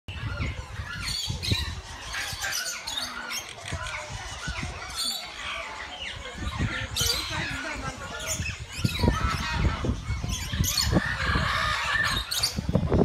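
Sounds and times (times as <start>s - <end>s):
birds chirping and squawking: 0.1s - 13.0s.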